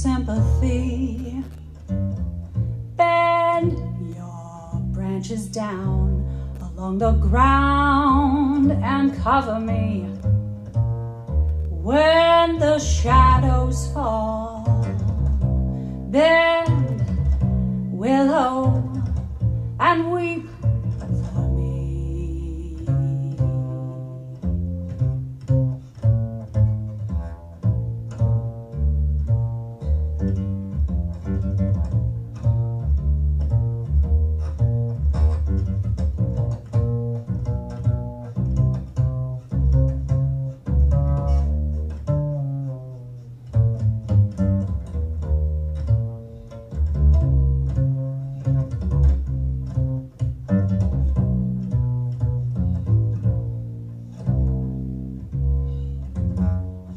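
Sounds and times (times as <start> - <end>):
plucked double bass: 0.0 - 56.9.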